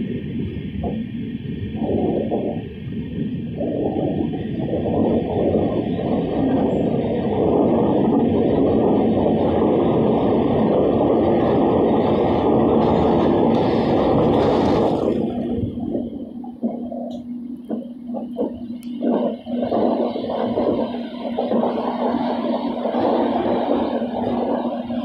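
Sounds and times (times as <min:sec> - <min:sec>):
train wheels rumbling in tunnel: 0:00.0 - 0:25.0.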